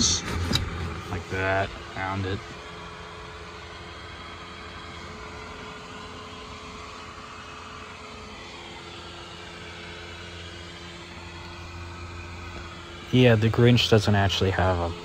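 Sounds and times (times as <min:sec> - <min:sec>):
blower fan humming: 0:00.0 - 0:15.0
low drone: 0:00.0 - 0:15.0.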